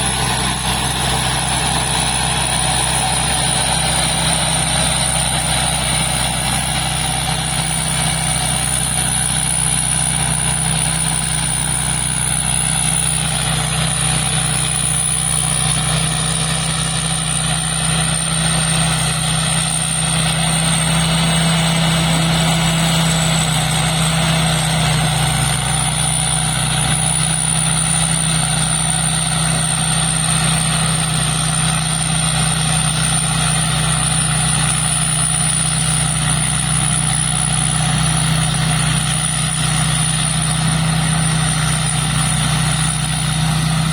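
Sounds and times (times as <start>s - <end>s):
combine harvester droning: 0.0s - 43.9s.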